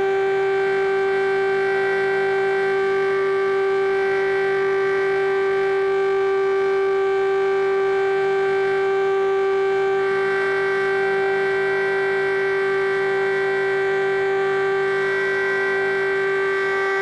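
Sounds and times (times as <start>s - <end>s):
air-defence siren steady tone: 0.0s - 17.0s.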